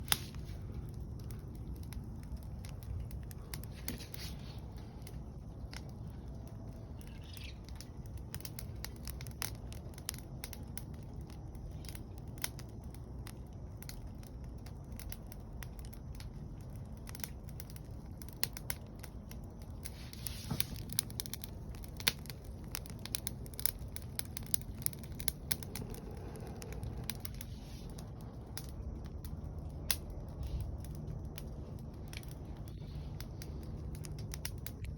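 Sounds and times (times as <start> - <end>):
low rumble: 0.0 - 13.9, 19.4 - 34.9
wood fire crackling and popping: 0.0 - 34.9.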